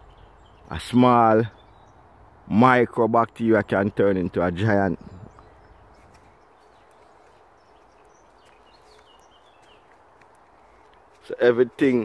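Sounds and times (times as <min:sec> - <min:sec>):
bird chirps: 0:00.0 - 0:02.1, 0:03.6 - 0:12.0.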